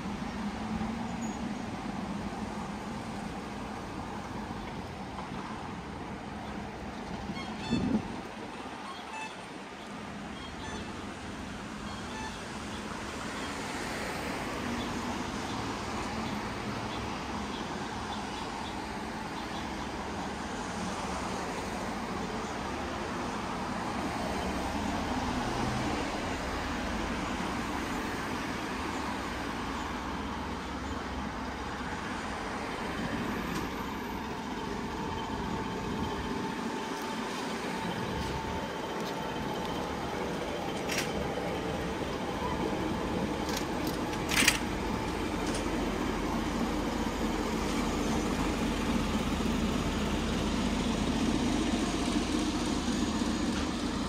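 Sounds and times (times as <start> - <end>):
cars and trucks passing: 0.0 - 54.0.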